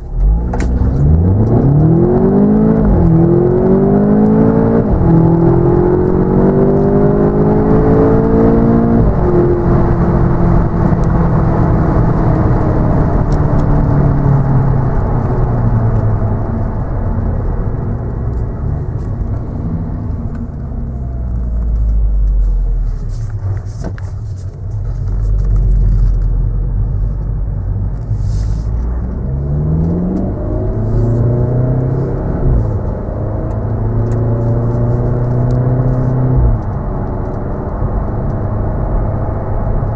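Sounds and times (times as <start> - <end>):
car engine running: 0.0 - 39.9
road rumble: 0.0 - 39.9.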